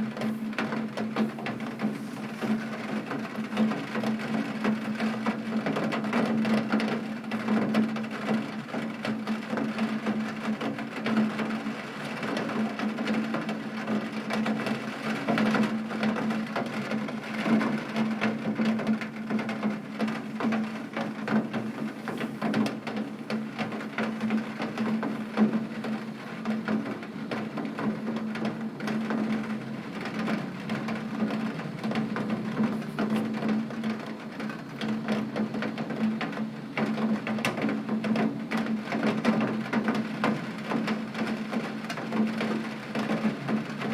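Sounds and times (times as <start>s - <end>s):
rain drops tapping glass: 0.0s - 43.9s
steady wash of rain: 8.2s - 43.9s.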